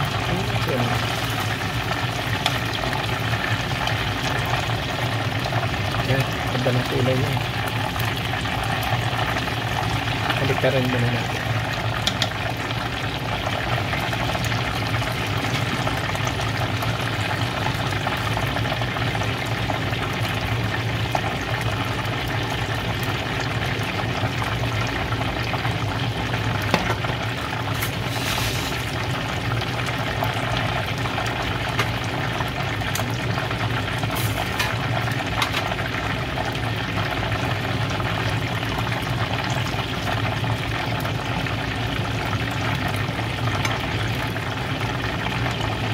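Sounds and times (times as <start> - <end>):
hot oil sizzling and bubbling: 0.0 - 45.9
sharp oil crackles: 0.0 - 45.9.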